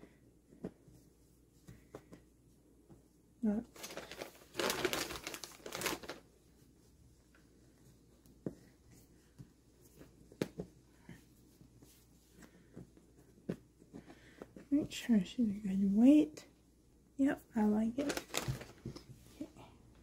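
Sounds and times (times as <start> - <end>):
stuffing and cloth rustling: 0.4 - 16.3, 17.6 - 20.0.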